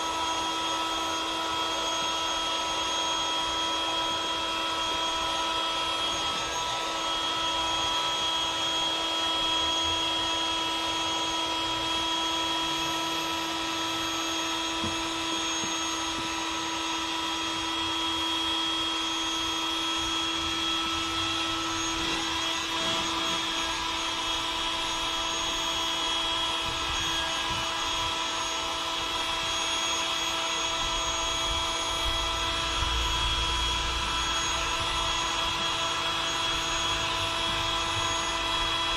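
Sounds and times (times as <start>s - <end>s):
electric air pump whining: 0.0s - 38.9s.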